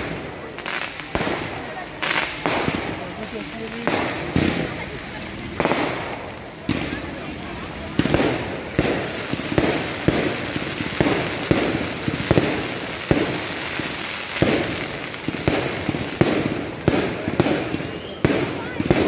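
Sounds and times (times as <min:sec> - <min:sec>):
fireworks bangs: 0:00.0 - 0:19.0
fireworks crackling and hiss: 0:00.0 - 0:19.0.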